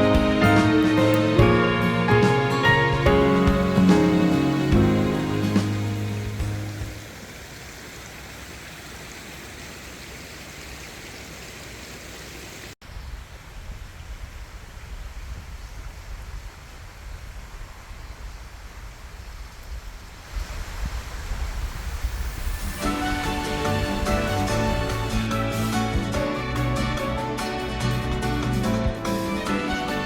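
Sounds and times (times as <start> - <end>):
rushing outdoor hiss: 2.9 - 29.9.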